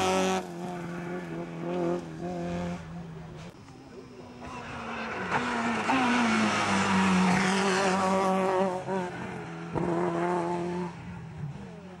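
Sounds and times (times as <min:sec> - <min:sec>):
rally car engine at high revs: 0:00.0 - 0:03.6, 0:04.2 - 0:12.0.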